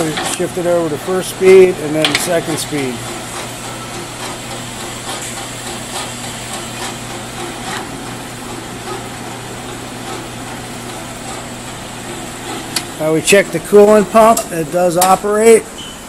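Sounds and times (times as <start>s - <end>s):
band saw motor humming: 0.0s - 15.8s.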